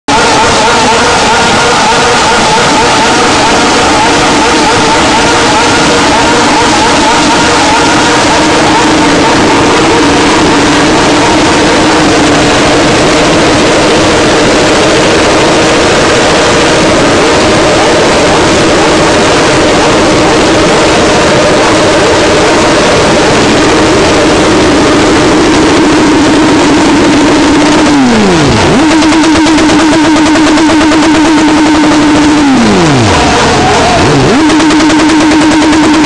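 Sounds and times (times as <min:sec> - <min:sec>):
motorcycle engine revving high: 0:00.0 - 0:36.0.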